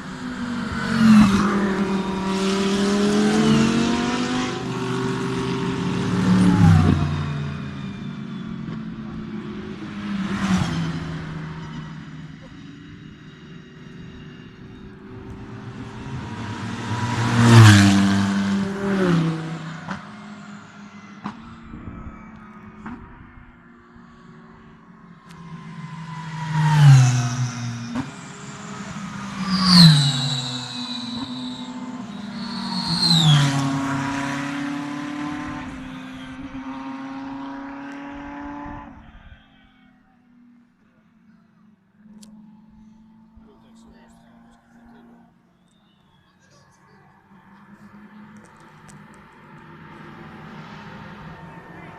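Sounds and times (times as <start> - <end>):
race car driving past: 0.0 - 51.9.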